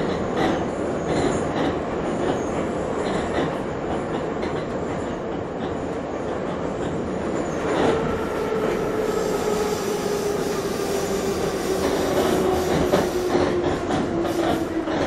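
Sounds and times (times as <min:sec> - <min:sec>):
rumble of train wheels on track: 0:00.0 - 0:15.0.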